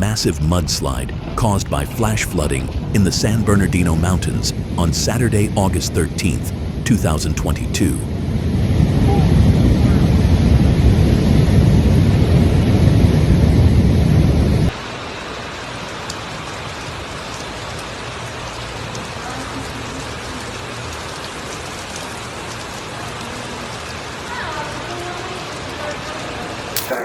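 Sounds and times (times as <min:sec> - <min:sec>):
mudslide rushing rumble: 0:00.0 - 0:26.7
steady hiss like rain: 0:00.0 - 0:26.9.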